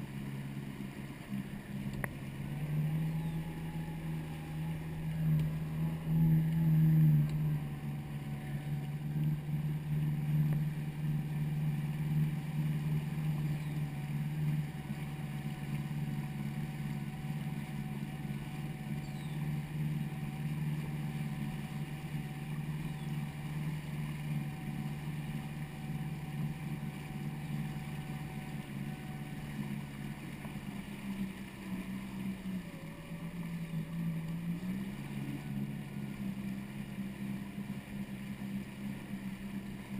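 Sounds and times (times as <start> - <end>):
jet ski engine running: 0.0 - 39.9
water and wind noise: 0.0 - 39.9.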